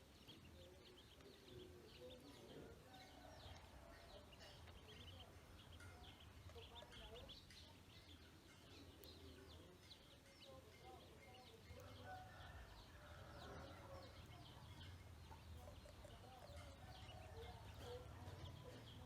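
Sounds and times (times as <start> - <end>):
ducklings peeping: 0.0 - 19.0.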